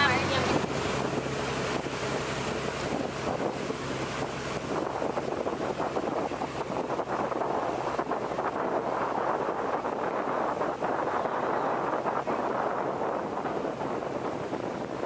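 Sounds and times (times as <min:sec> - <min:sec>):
boat engine humming: 0:00.0 - 0:15.0
water rushing past hull: 0:00.0 - 0:15.0
wind buffeting microphone: 0:00.0 - 0:15.0.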